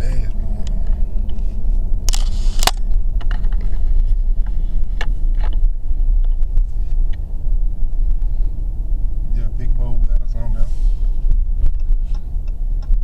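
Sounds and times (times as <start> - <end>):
road and engine rumble in cab: 0.0 - 13.0.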